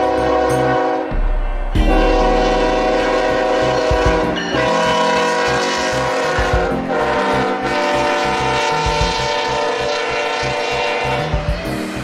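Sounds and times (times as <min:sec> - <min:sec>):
locomotive air horn: 0:00.0 - 0:01.1, 0:01.8 - 0:11.5
low rumble of passing train: 0:00.0 - 0:12.0.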